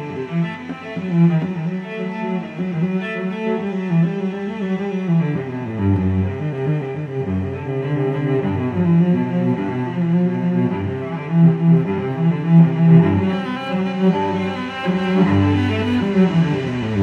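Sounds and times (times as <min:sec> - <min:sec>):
bowed string instrument melody: 0:00.0 - 0:17.0.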